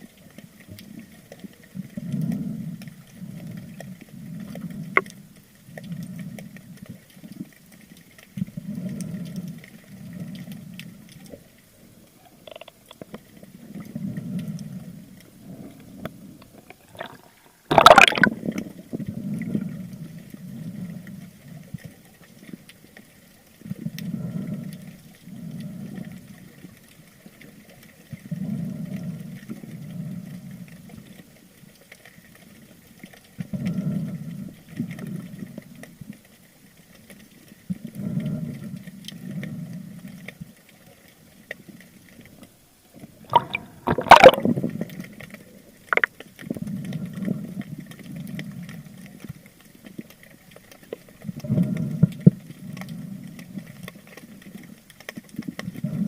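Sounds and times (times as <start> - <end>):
water rushing and sloshing: 0.0 - 32.7, 40.0 - 56.0.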